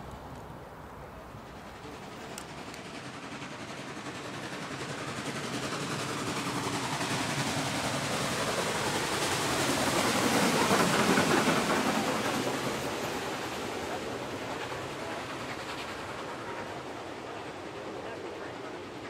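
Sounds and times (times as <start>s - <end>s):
passenger cars rolling on rails: 0.0s - 19.0s.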